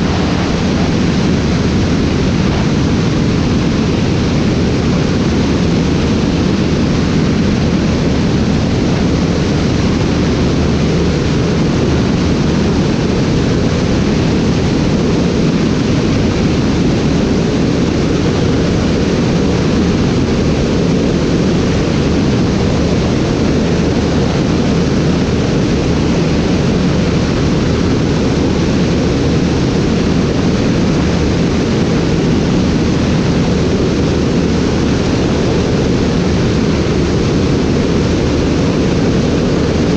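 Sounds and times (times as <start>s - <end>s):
aircraft roar in flight: 0.0s - 39.9s.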